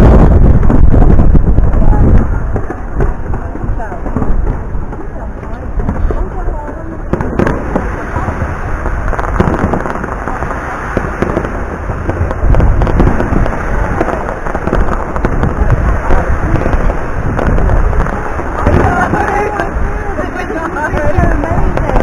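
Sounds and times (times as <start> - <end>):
fireworks banging and crackling: 0.0 - 22.0.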